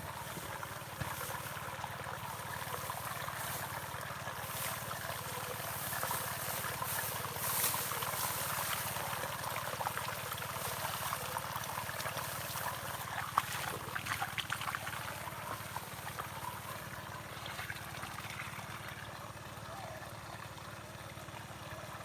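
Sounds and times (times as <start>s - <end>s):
steady outdoor hiss: 0.0s - 20.8s.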